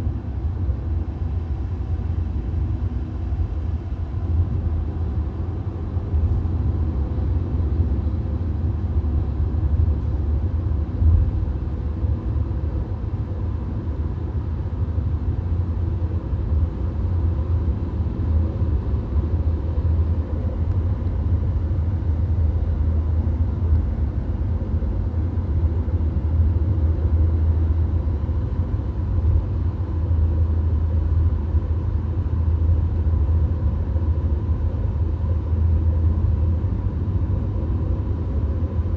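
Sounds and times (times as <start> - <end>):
car cabin road noise: 0.0 - 38.9.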